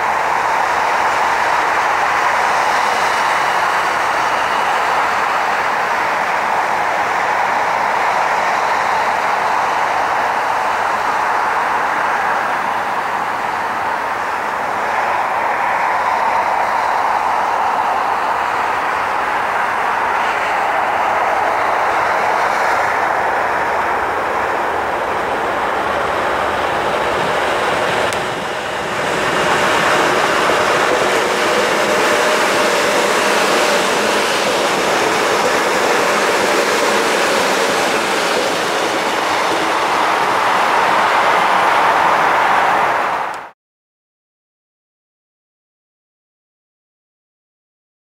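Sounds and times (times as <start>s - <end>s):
electric trains passing: 0.0s - 43.5s
train wheels on rails: 0.0s - 43.5s.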